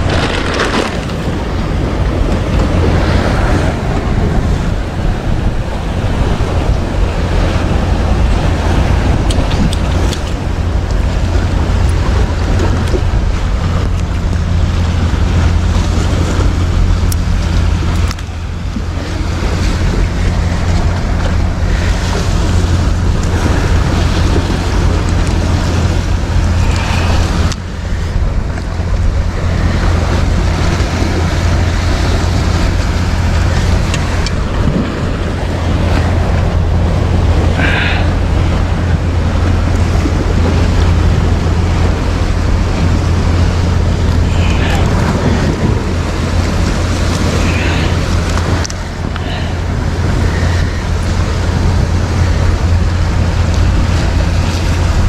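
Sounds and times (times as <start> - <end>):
boat engine droning: 0.0 - 55.0
water rushing past: 0.0 - 55.0
wind buffeting microphone: 0.0 - 55.0.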